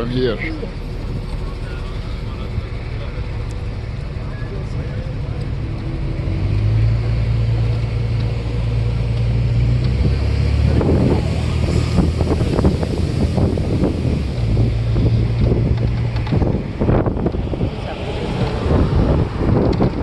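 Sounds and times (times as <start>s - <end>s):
bus engine humming: 0.0s - 20.0s
wind buffeting microphone: 0.0s - 20.0s.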